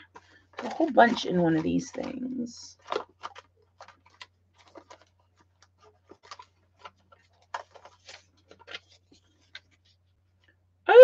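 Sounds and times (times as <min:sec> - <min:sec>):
craft supplies rattling in box: 0:00.0 - 0:09.7.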